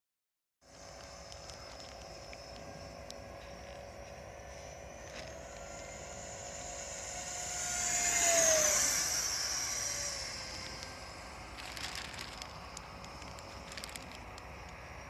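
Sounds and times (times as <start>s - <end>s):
model jet fan whining: 0.6s - 15.0s.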